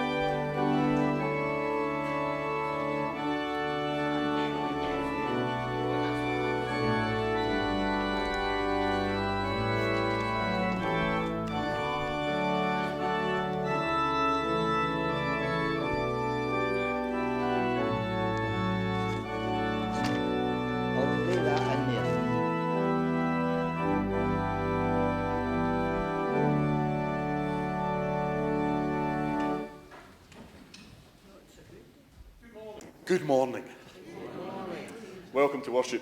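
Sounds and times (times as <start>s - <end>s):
church organ chords: 0.0s - 29.9s.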